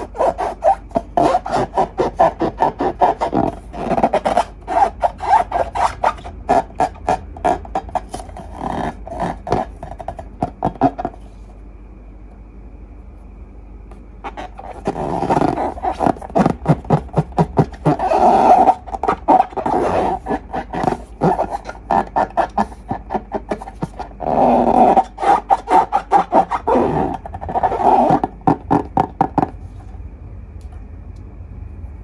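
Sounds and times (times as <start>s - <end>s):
balloon neck sputtering: 0.0s - 11.4s, 14.2s - 29.6s.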